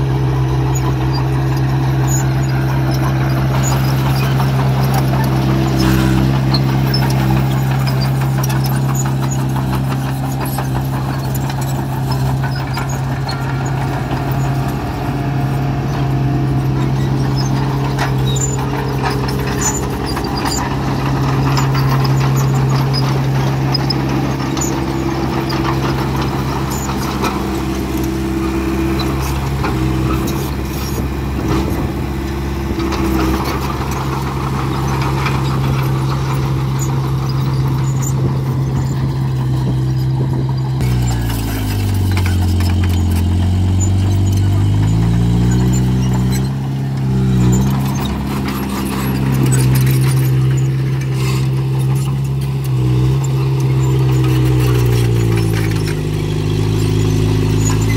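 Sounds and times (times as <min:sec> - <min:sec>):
bulldozer diesel engine: 0:00.0 - 0:57.9
steel tracks clanking: 0:00.0 - 0:57.9.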